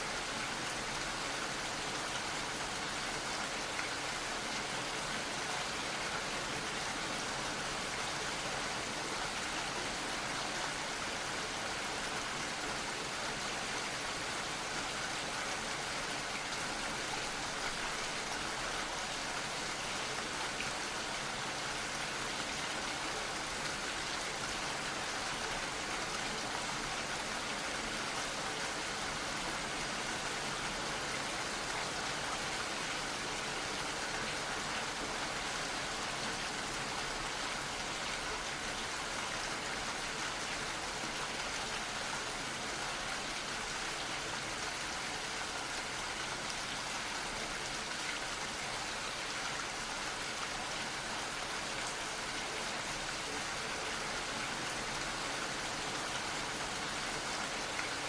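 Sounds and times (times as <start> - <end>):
gentle rain: 0.0 - 58.0.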